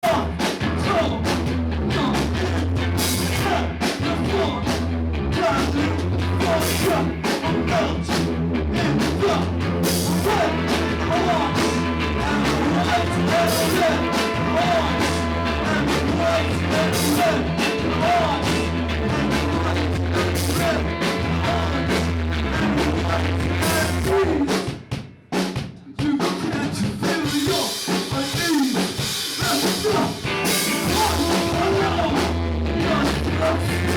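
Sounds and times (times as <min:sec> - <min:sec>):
live rock band playing: 0:00.0 - 0:25.7, 0:26.4 - 0:33.9
drum kit: 0:00.0 - 0:33.9.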